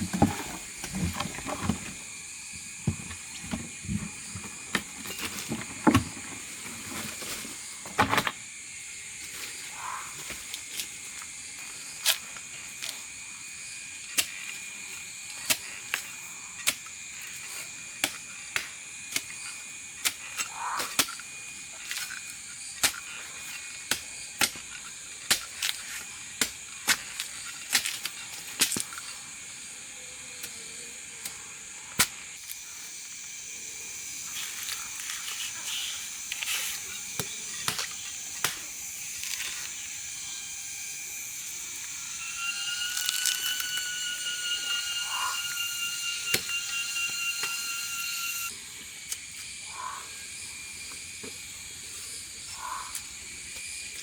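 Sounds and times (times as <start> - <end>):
high-pitched hiss: 0.0 - 54.0.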